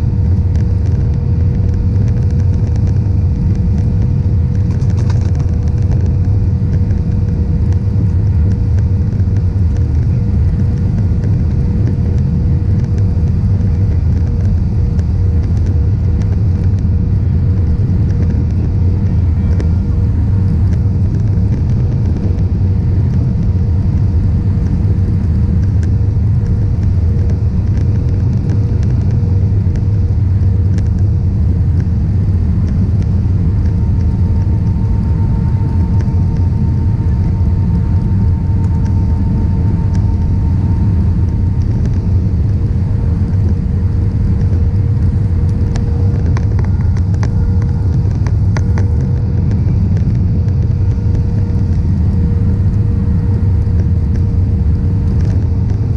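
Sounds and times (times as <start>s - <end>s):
airliner engines rumbling: 0.0s - 55.9s
thin steady hum: 0.0s - 55.9s.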